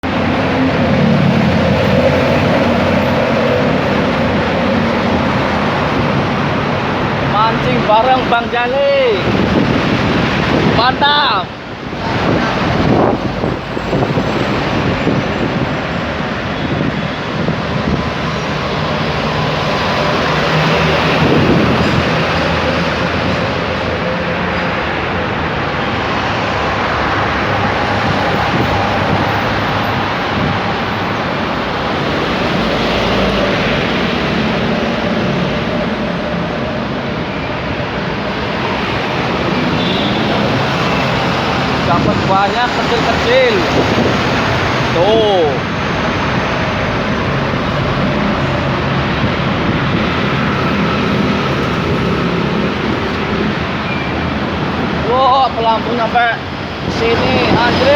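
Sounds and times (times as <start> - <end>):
loud rushing noise: 0.0 - 57.9.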